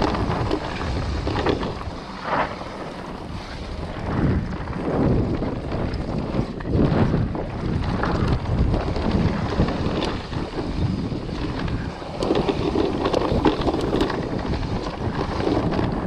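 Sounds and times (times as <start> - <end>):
bike tyres rumbling: 0.0 - 16.0
wind rushing over microphone: 0.0 - 16.0.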